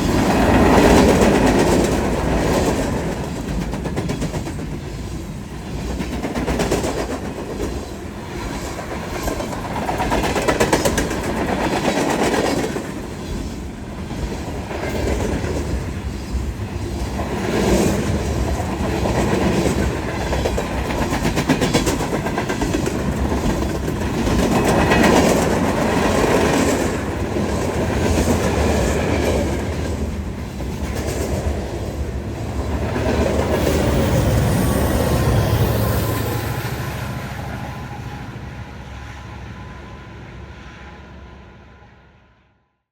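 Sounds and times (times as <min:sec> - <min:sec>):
freight train cars rolling past: 0:00.0 - 0:42.4.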